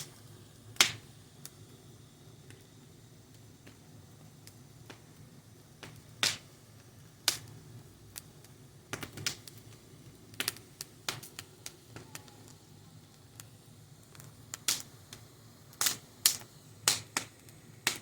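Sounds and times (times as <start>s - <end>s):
fire crackling with pops and snaps: 0.0s - 18.0s.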